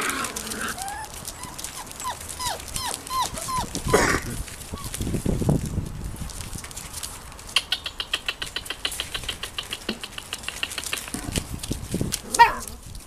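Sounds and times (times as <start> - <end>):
claws scrabbling at wire pen: 0.0 - 13.0.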